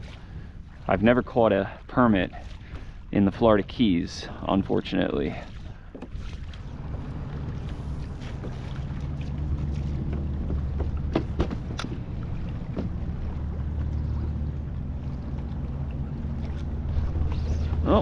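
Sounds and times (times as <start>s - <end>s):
water wash: 0.0s - 18.0s.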